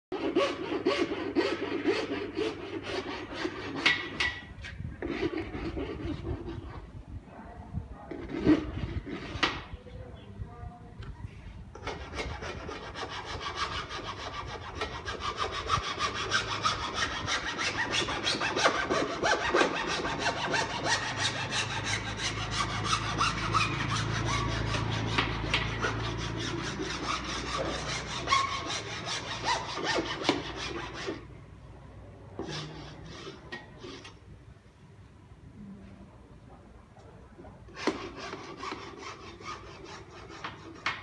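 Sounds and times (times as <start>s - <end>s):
hand saw cutting: 0.1s - 6.8s, 8.1s - 9.7s, 11.7s - 31.3s, 32.4s - 34.2s, 37.7s - 41.0s.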